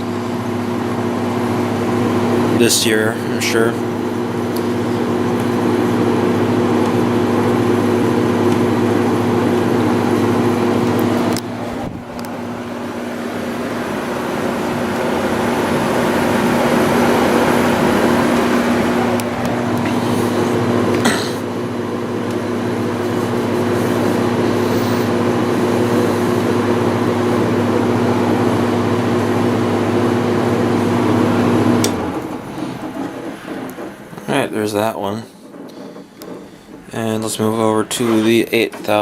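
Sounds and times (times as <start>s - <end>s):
air conditioner humming: 0.0s - 39.0s.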